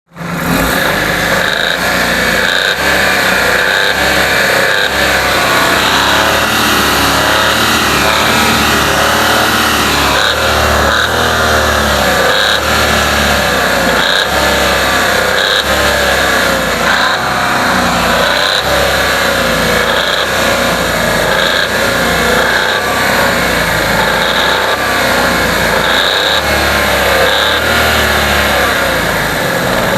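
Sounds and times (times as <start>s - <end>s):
car engine running: 0.1s - 29.9s
rapid engine knock: 0.2s - 29.9s.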